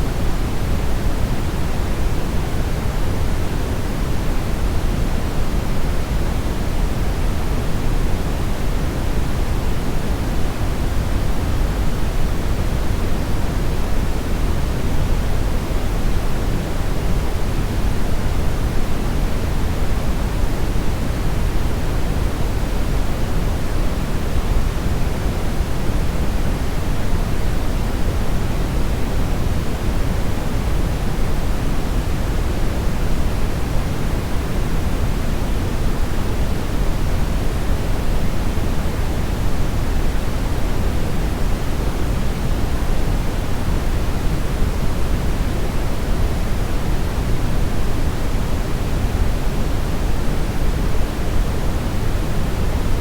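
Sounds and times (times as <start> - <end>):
brown noise hiss: 0.0 - 53.0.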